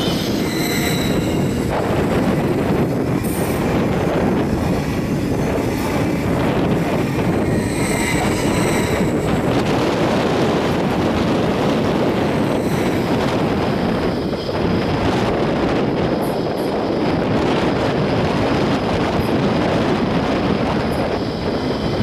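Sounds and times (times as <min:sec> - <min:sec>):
train rushing past: 0:00.0 - 0:22.0
wind buffeting microphone: 0:00.0 - 0:22.0.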